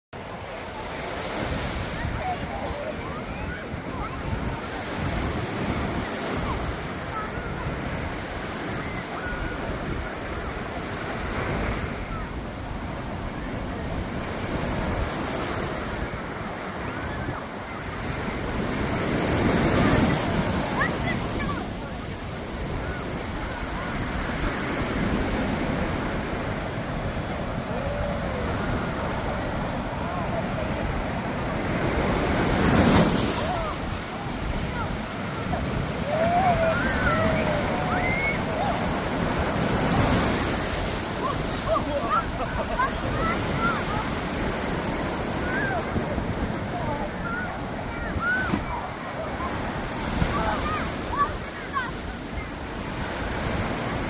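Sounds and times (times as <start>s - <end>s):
ocean waves breaking: 0.2s - 54.0s.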